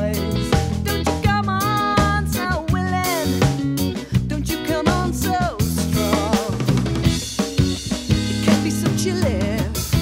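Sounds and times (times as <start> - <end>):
drum kit: 0.0 - 10.0
electric bass: 0.0 - 10.0
electric guitar: 0.0 - 10.0.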